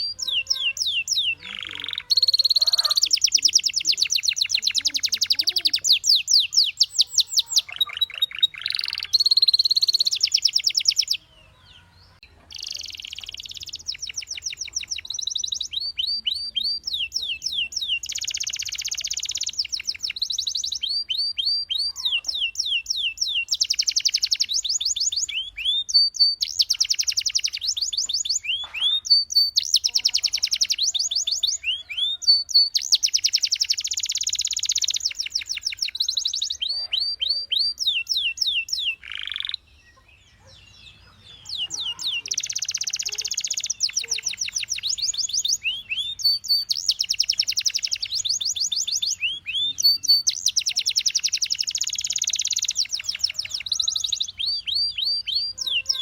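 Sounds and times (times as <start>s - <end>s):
canary trilling: 0.0s - 56.0s.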